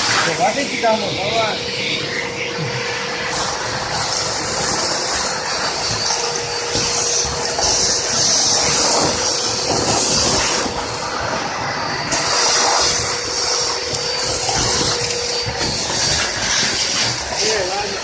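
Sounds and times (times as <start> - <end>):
industrial vacuum cleaner: 0.0 - 18.0
rushing air hiss: 0.0 - 18.0.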